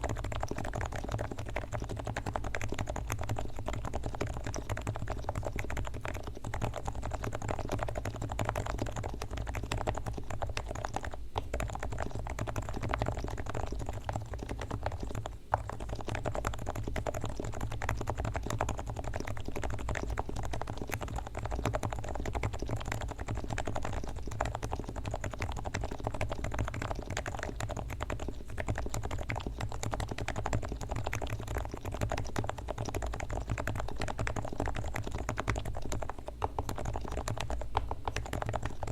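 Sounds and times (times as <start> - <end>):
rapid keyboard typing: 0.0 - 38.9.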